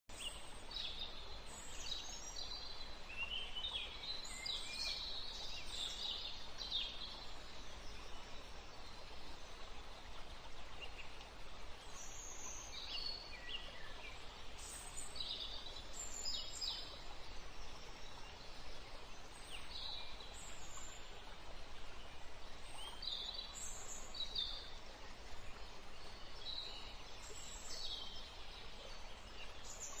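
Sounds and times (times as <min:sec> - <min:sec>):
songbirds chirping: 0:00.1 - 0:30.0
steady background hiss: 0:00.1 - 0:30.0.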